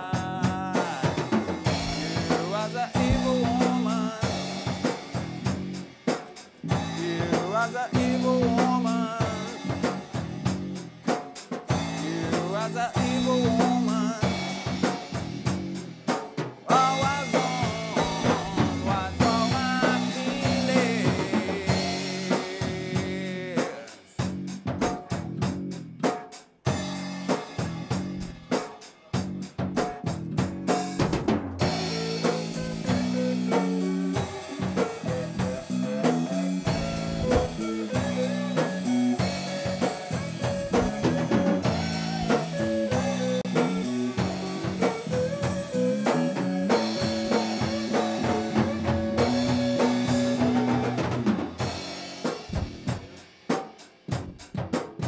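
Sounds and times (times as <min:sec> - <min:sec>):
instrumental rock band: 0:00.0 - 0:55.0.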